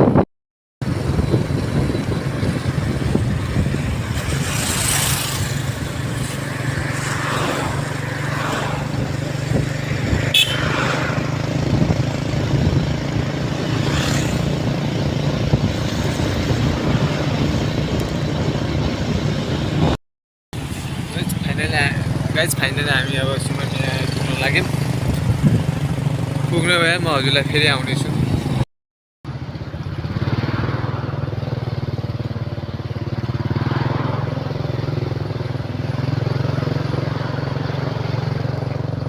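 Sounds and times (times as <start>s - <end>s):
road and wind noise: 0.0s - 39.0s
scooter engine droning: 0.8s - 20.0s, 20.6s - 28.6s, 29.3s - 39.0s
vehicles passing: 0.8s - 20.0s, 20.6s - 28.7s, 29.3s - 39.0s.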